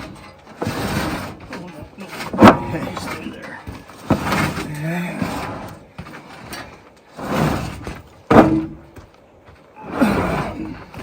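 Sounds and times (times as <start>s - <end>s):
heavy metal scraping and creaking: 0.0s - 11.0s.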